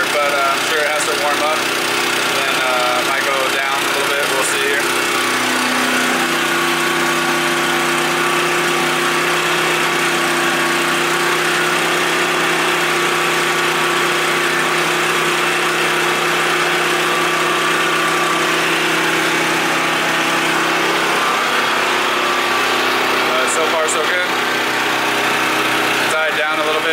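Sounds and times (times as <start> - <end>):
portable generator engine running: 0.0 - 26.9.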